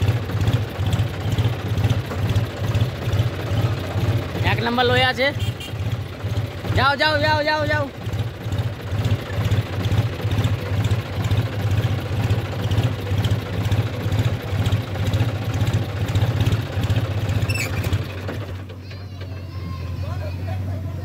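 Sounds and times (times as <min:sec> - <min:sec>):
tractor diesel engine throbbing: 0:00.0 - 0:21.0.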